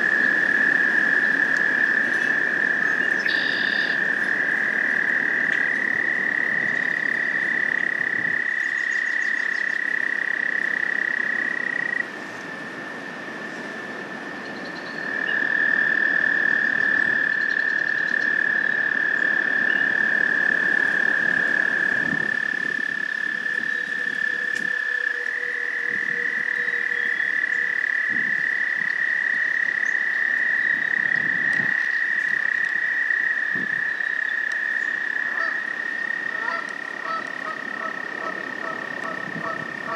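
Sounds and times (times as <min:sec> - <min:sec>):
toads trilling: 0:00.0 - 0:12.0, 0:14.4 - 0:39.9.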